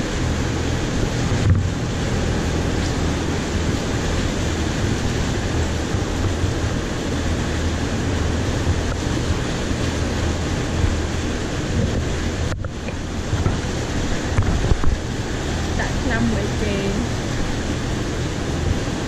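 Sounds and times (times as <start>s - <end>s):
steady low rumble: 0.0s - 19.0s
wind buffeting microphone: 0.0s - 19.0s.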